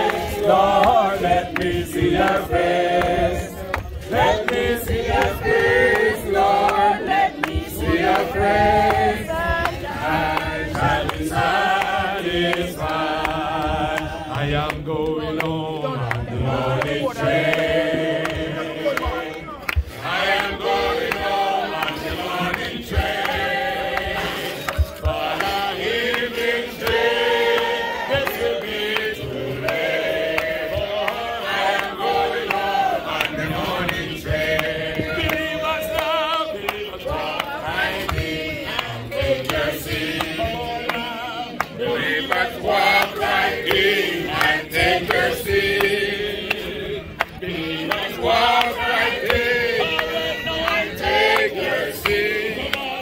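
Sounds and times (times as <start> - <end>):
congregation singing gospel chorus: 0.0 - 53.0.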